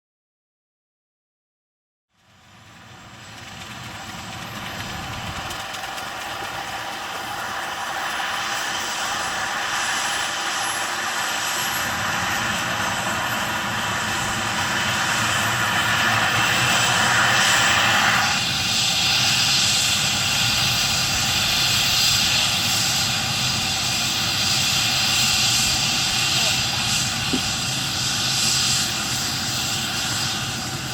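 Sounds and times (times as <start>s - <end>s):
helicopter rotor and engines: 2.1s - 30.9s
high turbine whine: 2.2s - 30.9s.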